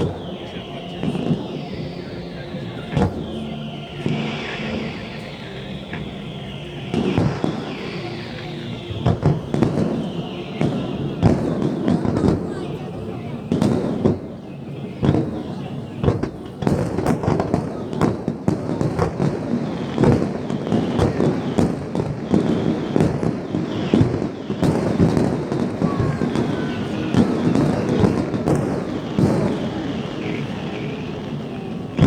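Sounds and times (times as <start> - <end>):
fireworks bangs: 0.0 - 32.0
fireworks crackles: 0.0 - 32.0.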